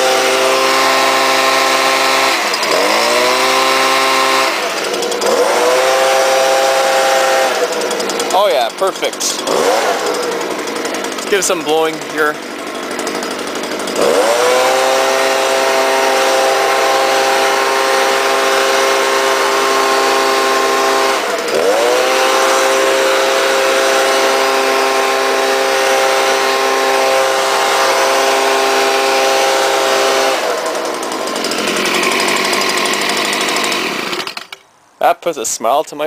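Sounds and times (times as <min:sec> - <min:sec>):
leaf blower engine revving: 0:00.0 - 0:34.6.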